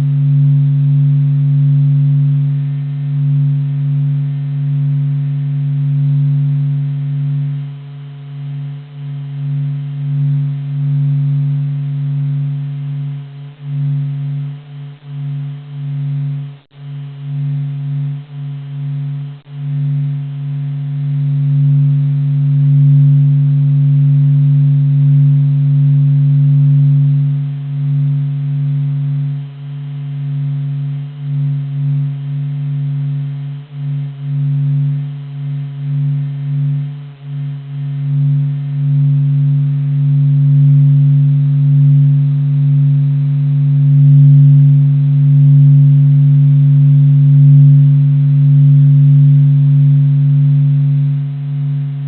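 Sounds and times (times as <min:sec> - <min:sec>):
deep droning hum: 0:00.0 - 0:52.0.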